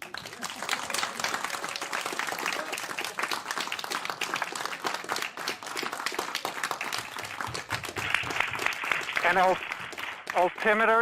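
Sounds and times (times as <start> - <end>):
crowd applause: 0.0 - 11.0.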